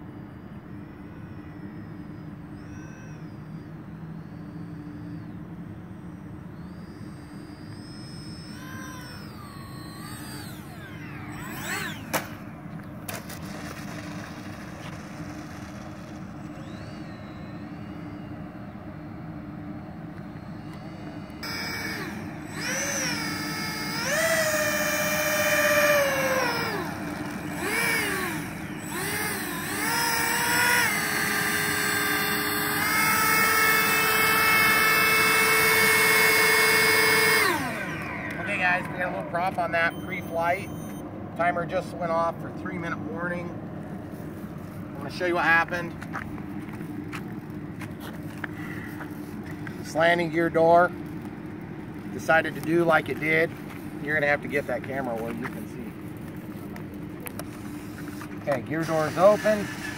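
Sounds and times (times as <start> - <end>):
model plane electric motors whining: 0.0 - 41.9, 42.6 - 59.9.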